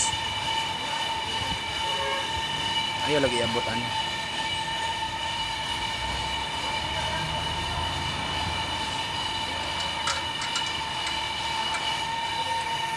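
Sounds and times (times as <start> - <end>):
grinding machine whining: 0.0 - 12.9.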